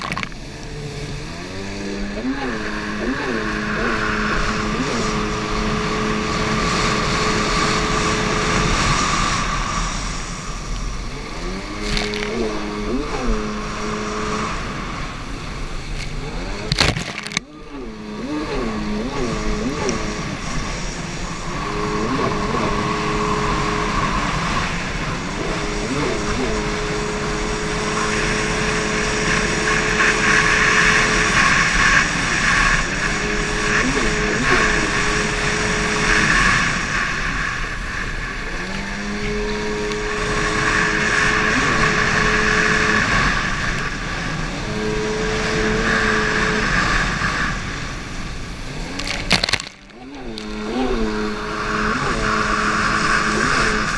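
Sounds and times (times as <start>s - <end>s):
jet ski engine revving: 0.0s - 53.9s.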